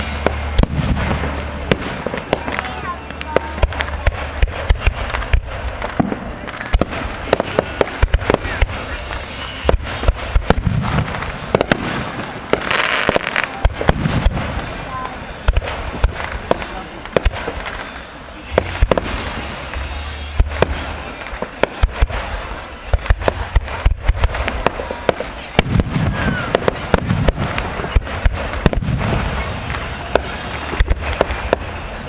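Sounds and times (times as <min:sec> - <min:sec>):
fireworks bangs and crackles: 0:00.0 - 0:32.0
fireworks deep booms: 0:00.0 - 0:32.0.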